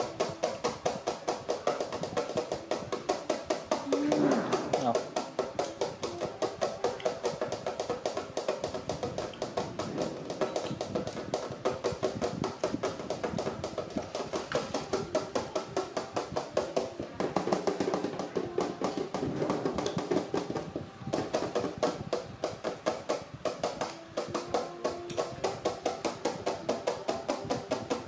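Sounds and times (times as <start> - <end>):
fast percussive beat: 0.0 - 28.0.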